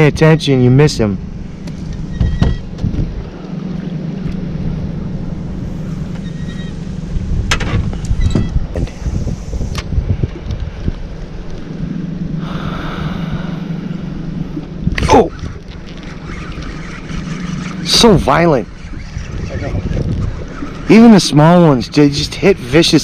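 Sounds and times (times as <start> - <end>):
boat motor running: 0.1 - 23.0
wind noise on microphone: 1.2 - 3.4, 4.0 - 23.0.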